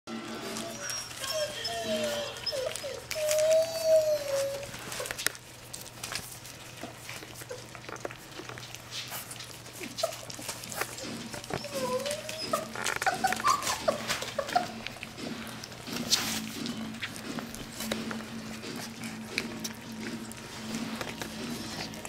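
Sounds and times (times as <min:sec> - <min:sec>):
puppies lapping food: 0:00.1 - 0:22.0
puppies whining: 0:00.1 - 0:22.0.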